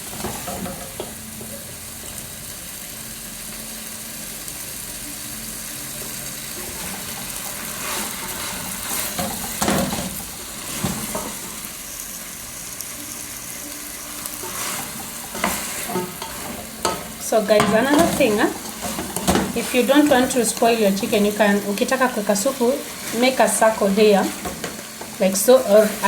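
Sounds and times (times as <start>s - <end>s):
soup sizzling and bubbling: 0.0s - 26.0s.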